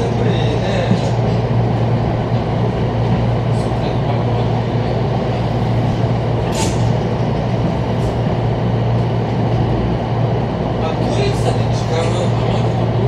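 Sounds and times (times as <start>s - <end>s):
train carriage hum: 0.0s - 13.0s.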